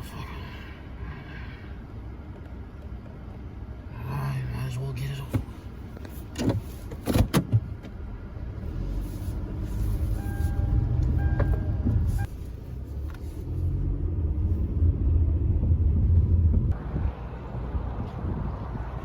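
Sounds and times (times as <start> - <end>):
low road noise: 0.0 - 19.0
car engine running: 1.7 - 17.0.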